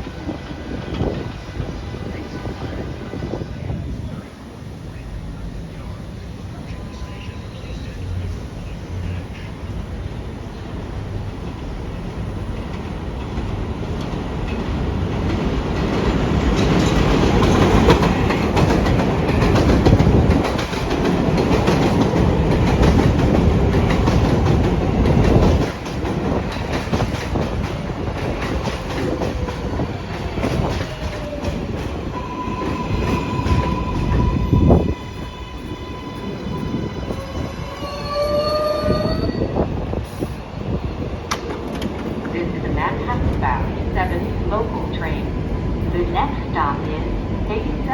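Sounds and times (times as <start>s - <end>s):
train wheels rumbling on rail: 0.0s - 47.9s.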